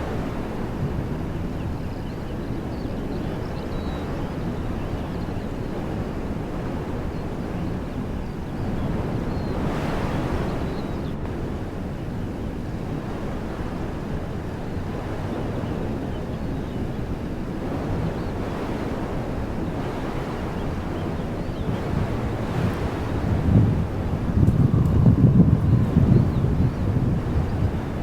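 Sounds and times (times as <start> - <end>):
wind blowing through trees: 0.0 - 28.0.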